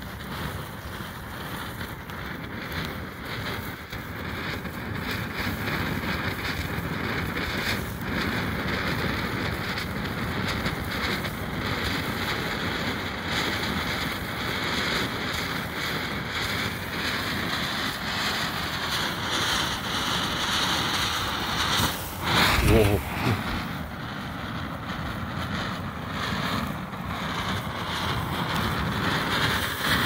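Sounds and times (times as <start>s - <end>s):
firework fountain hissing: 0.0s - 30.0s.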